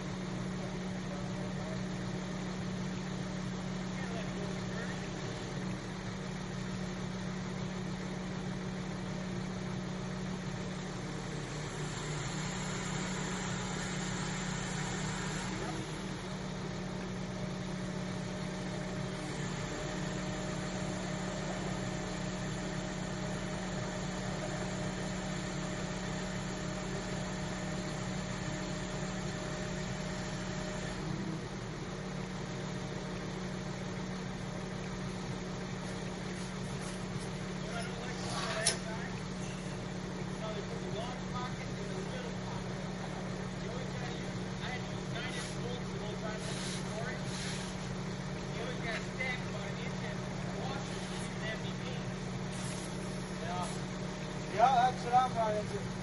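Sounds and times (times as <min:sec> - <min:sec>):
crane engine humming: 0:00.0 - 0:56.0.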